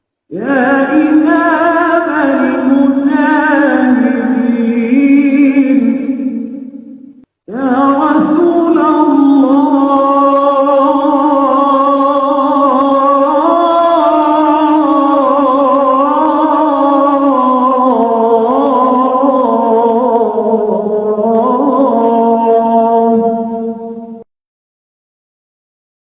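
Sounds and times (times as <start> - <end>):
person chanting devotional song: 0.1 - 24.3.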